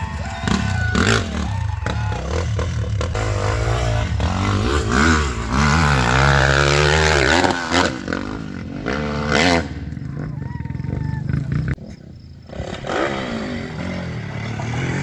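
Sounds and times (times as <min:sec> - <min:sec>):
dirt bike engine revving: 0:00.0 - 0:11.8, 0:12.4 - 0:15.0.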